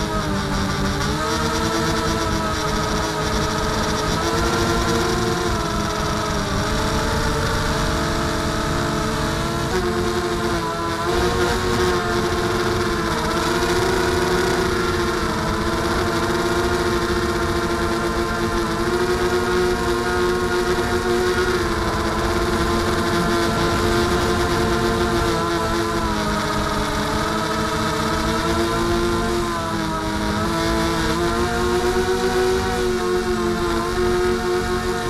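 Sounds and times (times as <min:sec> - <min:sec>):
rush of noise: 0:00.0 - 0:30.1
drone motors whining: 0:00.0 - 0:35.0.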